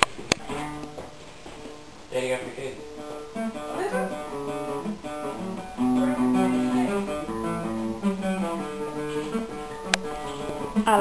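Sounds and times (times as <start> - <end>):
acoustic guitar plucking: 0.0 - 2.0, 2.8 - 11.0.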